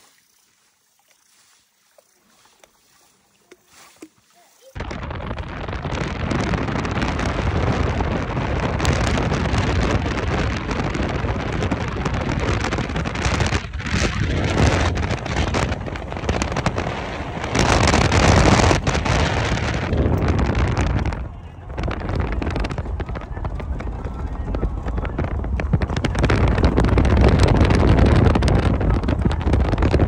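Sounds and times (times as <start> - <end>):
wind buffeting microphone: 4.8 - 30.0.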